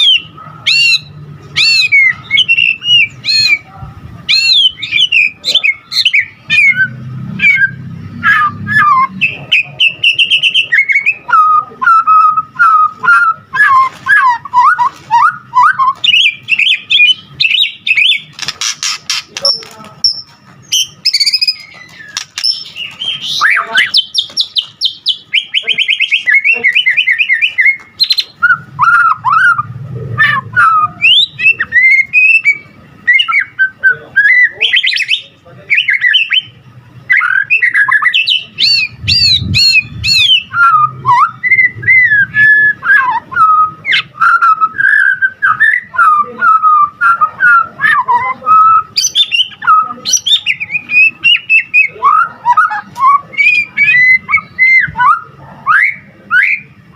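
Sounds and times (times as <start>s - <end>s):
songbird singing varied song: 0.0s - 56.8s.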